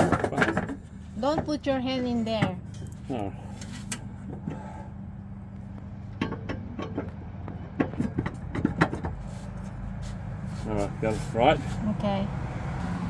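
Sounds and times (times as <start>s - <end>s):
low hum: 0.1s - 10.6s.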